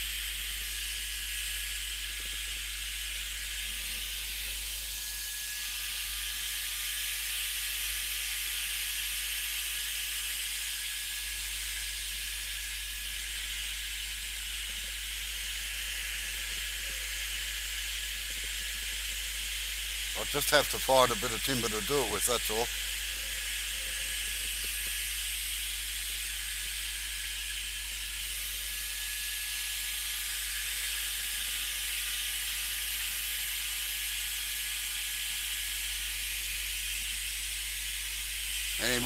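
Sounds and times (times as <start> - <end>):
heat gun fan hissing: 0.0 - 39.0.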